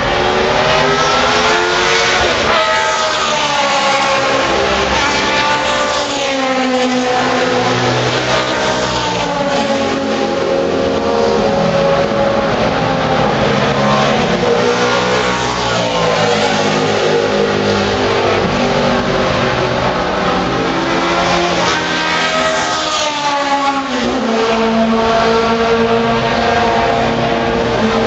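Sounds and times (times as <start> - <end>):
race car engines accelerating: 0.0 - 28.0.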